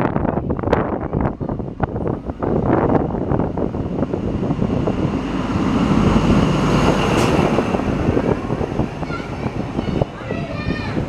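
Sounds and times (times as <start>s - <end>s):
train carriages rumbling by: 0.0s - 11.0s.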